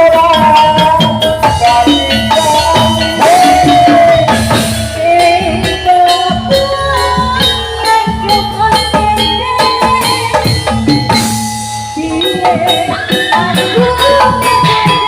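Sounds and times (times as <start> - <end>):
drums: 0.0 - 15.0
melodic instruments: 0.0 - 15.0
rattling percussion: 0.0 - 15.0.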